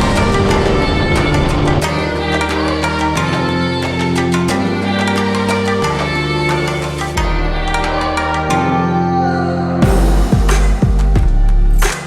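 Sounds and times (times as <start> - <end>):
instrumental music with beat: 0.0 - 9.2, 9.8 - 12.0.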